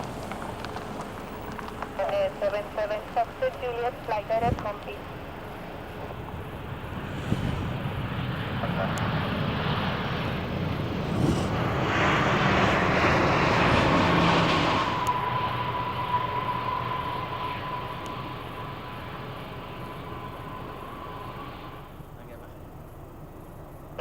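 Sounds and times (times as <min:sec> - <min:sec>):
jet airliner engines: 0:00.0 - 0:24.0
steady engine whine: 0:00.0 - 0:24.0.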